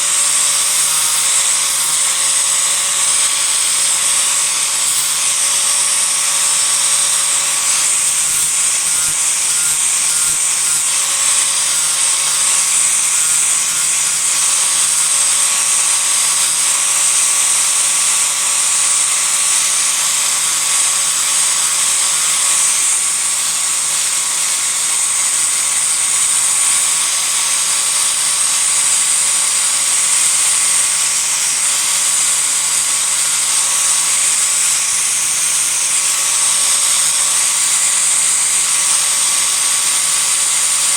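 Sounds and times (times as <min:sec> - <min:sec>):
disc grinder whining: 0:00.0 - 0:40.9.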